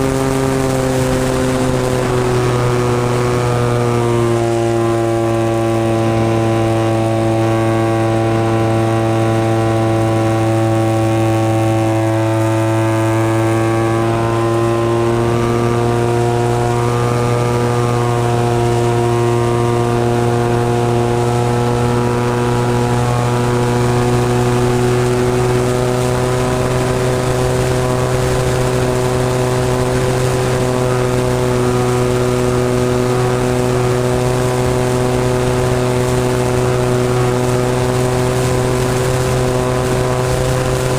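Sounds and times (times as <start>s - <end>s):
model airplane engine running: 0.0s - 40.9s.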